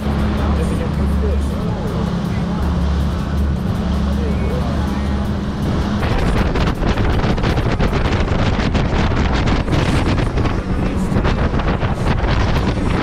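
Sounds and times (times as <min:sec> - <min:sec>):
low rumble of boat engine: 0:00.0 - 0:13.0
wind buffeting microphone: 0:00.0 - 0:13.0.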